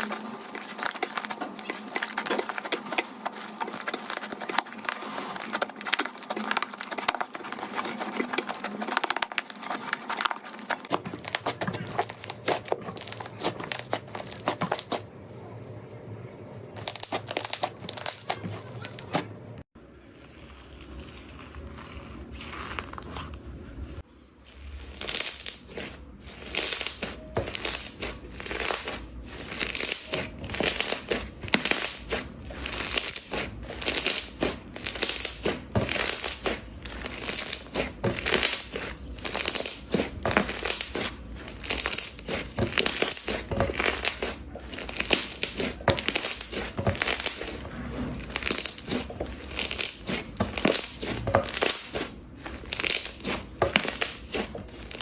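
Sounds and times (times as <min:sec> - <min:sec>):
slime squelching: 0:00.0 - 0:15.2, 0:16.8 - 0:19.3, 0:24.5 - 0:55.0.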